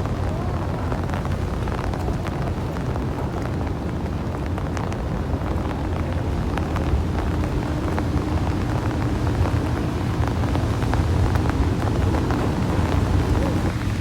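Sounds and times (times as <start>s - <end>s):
continuous low rumble: 0.0s - 14.0s
raindrop ticks: 0.0s - 14.0s
steady rain: 0.0s - 14.0s.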